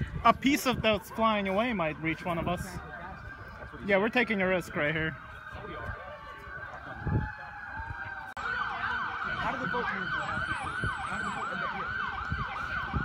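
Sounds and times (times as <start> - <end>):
fire engine siren: 0.0 - 13.0.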